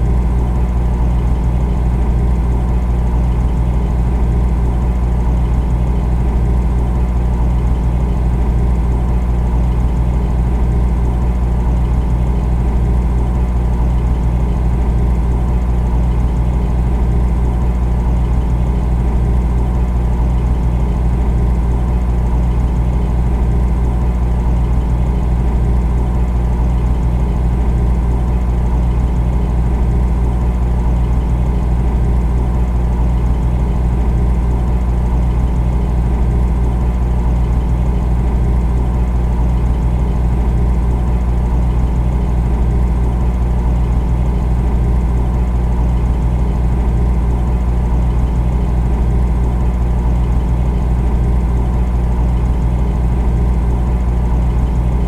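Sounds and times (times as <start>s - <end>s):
refrigerator compressor hum: 0.0s - 55.0s.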